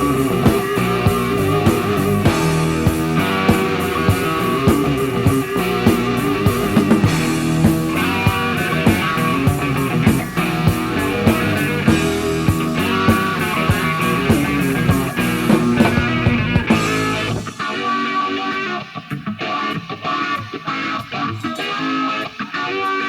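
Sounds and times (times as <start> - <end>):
electric guitar playing alone: 0.0 - 23.0
hard rock band playing: 0.0 - 23.0.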